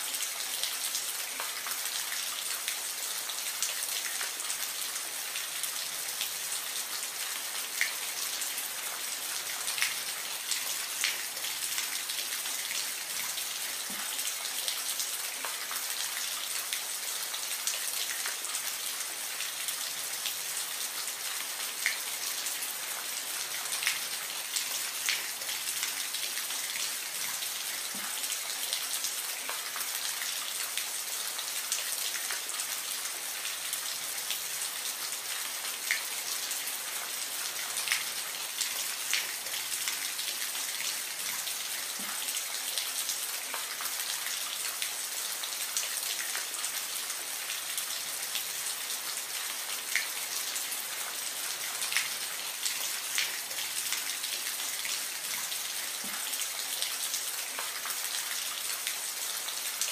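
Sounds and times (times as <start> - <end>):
soft rain hiss: 0.0 - 59.9.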